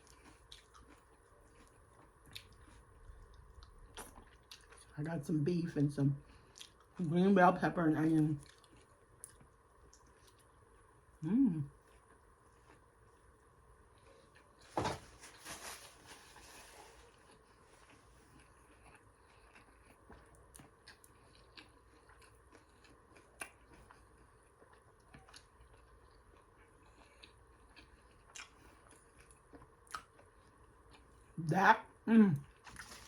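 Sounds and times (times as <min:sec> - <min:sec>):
quiet chewing: 0:00.0 - 0:05.0, 0:06.2 - 0:07.0, 0:08.4 - 0:14.7, 0:15.6 - 0:31.4, 0:32.4 - 0:33.0.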